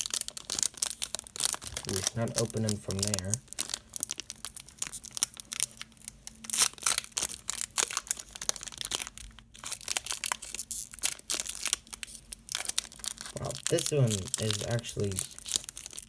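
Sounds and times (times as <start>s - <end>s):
foil wrapper crinkling and tearing: 0.0s - 16.0s.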